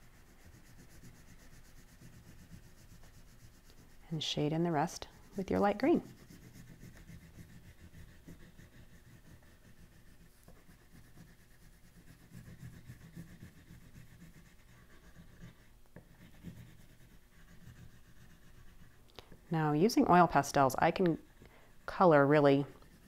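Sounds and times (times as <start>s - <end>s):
oil pastel rubbing on paper: 0.0s - 23.0s.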